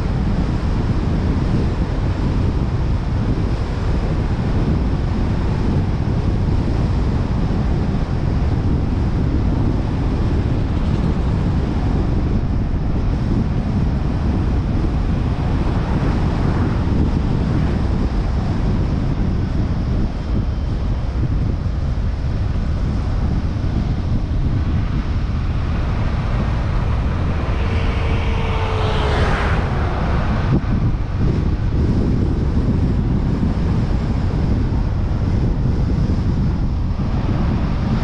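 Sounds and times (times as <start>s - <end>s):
low road rumble: 0.0s - 38.0s
wind buffeting microphone: 0.0s - 38.0s.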